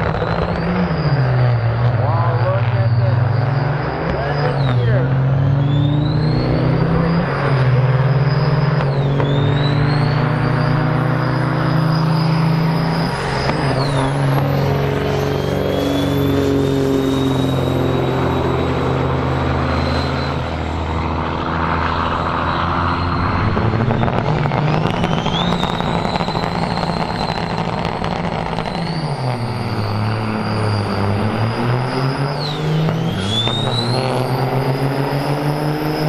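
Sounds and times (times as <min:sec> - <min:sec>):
diesel truck engine under throttle: 0:00.0 - 0:36.0
turbo whistle: 0:00.0 - 0:36.0.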